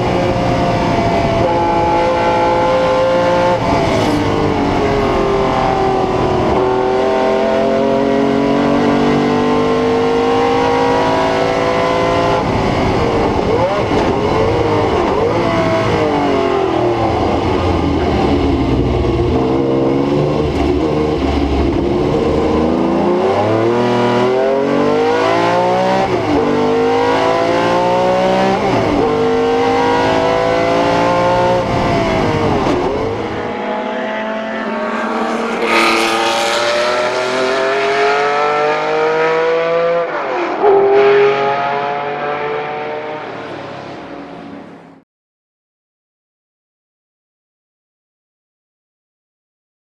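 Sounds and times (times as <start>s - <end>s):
racing engine accelerating: 0.0s - 44.8s.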